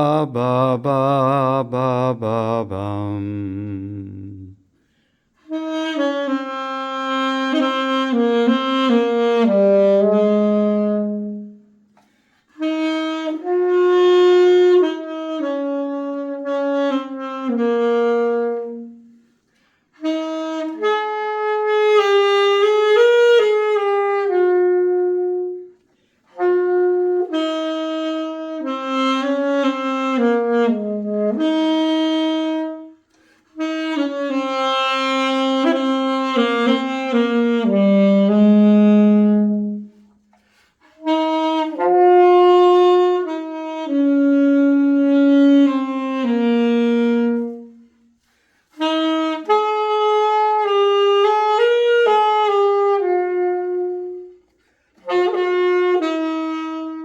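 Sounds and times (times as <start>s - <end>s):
solo saxophone melody: 0.0s - 57.0s.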